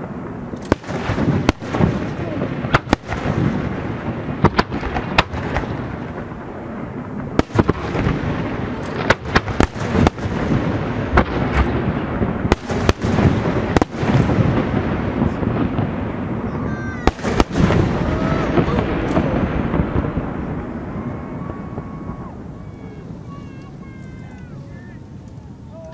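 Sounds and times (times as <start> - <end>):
fireworks bursting: 0.0 - 25.9
rumble of fireworks reports: 0.0 - 25.9.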